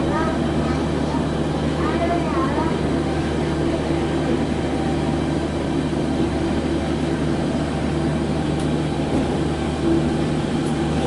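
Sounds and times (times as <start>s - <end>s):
constant low hum: 0.0s - 11.0s
train motors and tyres droning: 0.0s - 11.0s.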